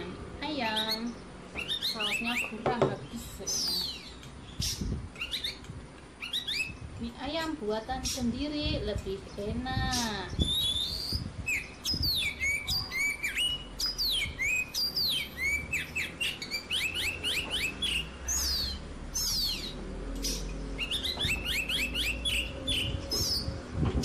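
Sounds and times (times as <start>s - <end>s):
small bird chirping rapidly: 0.0s - 23.8s.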